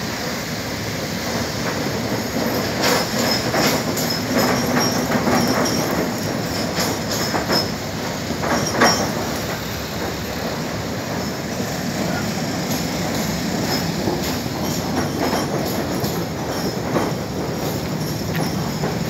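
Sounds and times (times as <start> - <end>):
metallic clanks and rattles: 1.6 - 11.7, 12.6 - 19.0.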